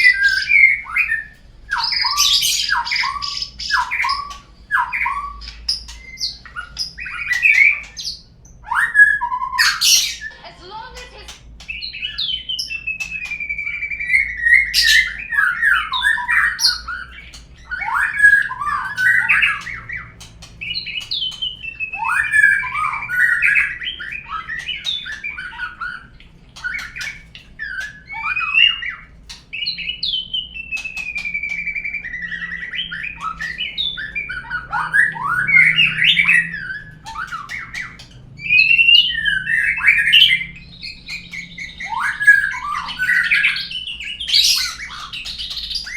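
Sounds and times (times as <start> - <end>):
songbird whistling and chattering: 0.0 - 45.9.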